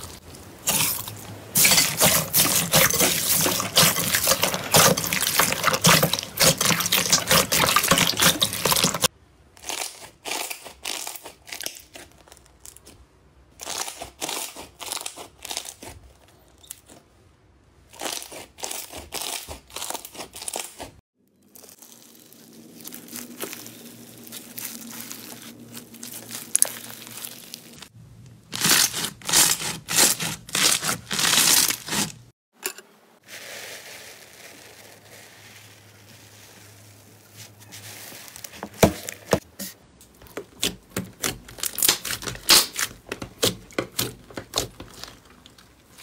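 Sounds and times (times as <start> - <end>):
crunchy slime crackling: 0.0 - 17.0, 17.9 - 32.3, 40.1 - 46.0.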